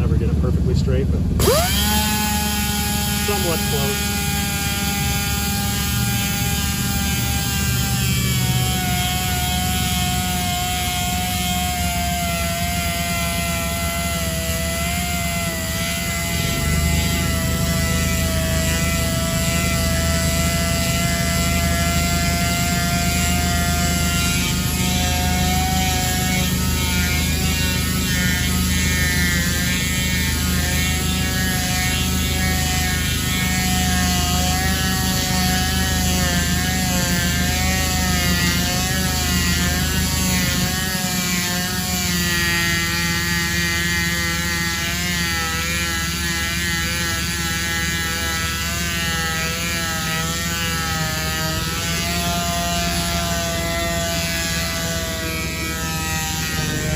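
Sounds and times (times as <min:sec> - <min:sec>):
power sander on metal wheel: 0:00.0 - 0:56.9
steady low hum: 0:00.0 - 0:56.9.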